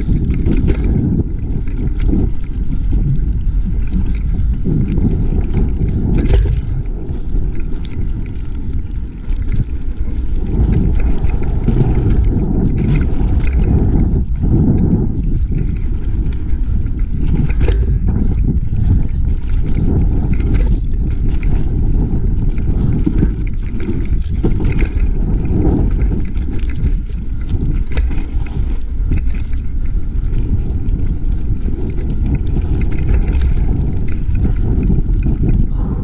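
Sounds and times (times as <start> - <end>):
bike knocking and rattling: 0.0 - 36.0
bike tyres rumbling on dirt: 0.0 - 36.0
wind buffeting microphone: 0.0 - 36.0.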